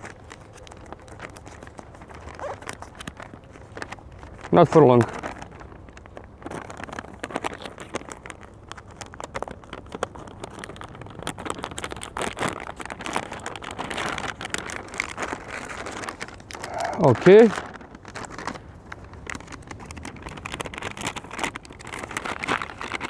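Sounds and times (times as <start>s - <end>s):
plastic and foil crinkling: 0.0s - 23.0s
small irregular clicks: 0.0s - 23.0s.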